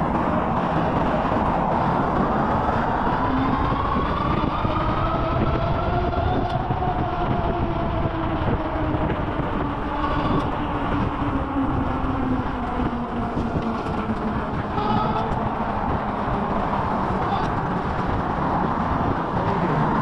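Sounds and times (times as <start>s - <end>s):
vehicle running with heavy rumble: 0.0s - 20.0s.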